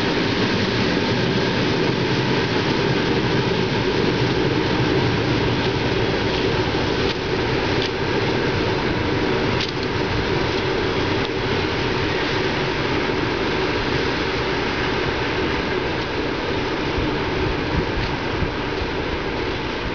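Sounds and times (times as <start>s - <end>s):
train rumbling on tracks: 0.0s - 19.9s.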